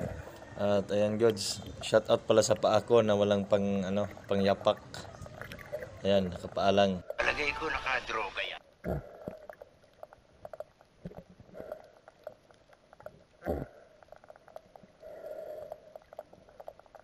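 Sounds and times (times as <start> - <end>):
underwater clicks and crackles: 0.0 - 7.2, 9.0 - 17.0.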